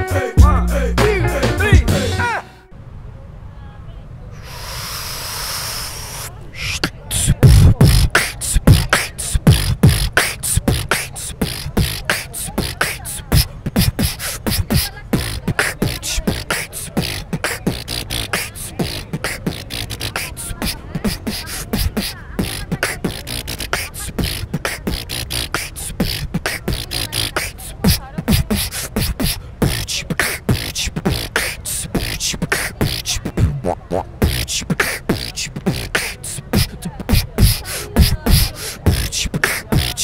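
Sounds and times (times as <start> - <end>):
person beatboxing into microphone: 0.0 - 2.4, 4.4 - 40.0.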